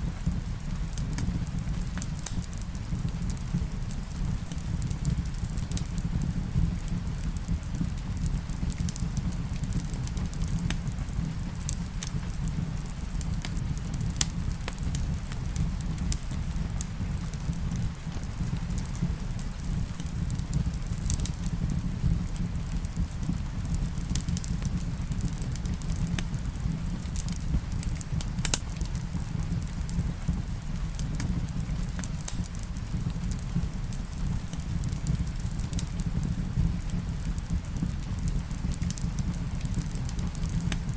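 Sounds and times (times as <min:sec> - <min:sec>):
fire burning low rumble: 0:00.0 - 0:40.9
fire crackles and pops: 0:00.0 - 0:40.9.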